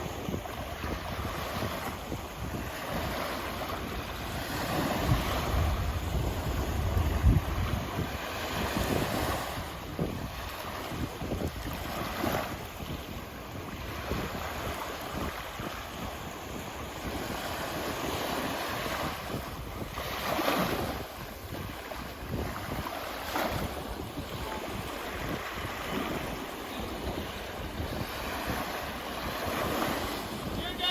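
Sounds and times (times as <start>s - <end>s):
waves washing onto beach: 0.0s - 30.9s
wind buffeting microphone: 0.0s - 30.9s.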